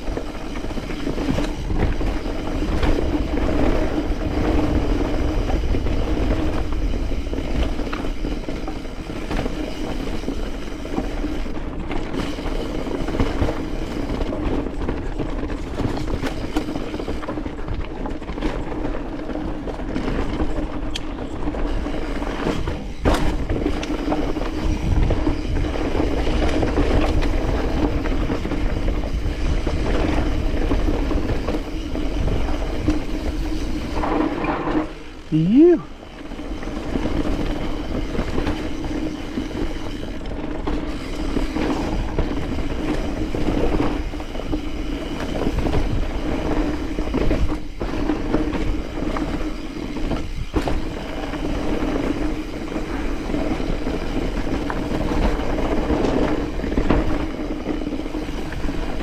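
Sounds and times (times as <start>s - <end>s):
mountain bike rattling over rocks: 0.0s - 35.3s, 35.9s - 59.0s
wind rumble on microphone: 0.0s - 59.0s.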